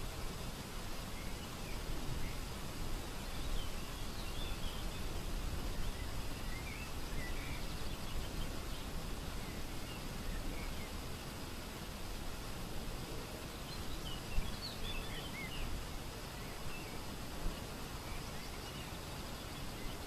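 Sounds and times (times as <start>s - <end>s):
wind noise: 0.0s - 20.0s
faint bird chirps: 0.1s - 12.0s, 13.0s - 20.0s.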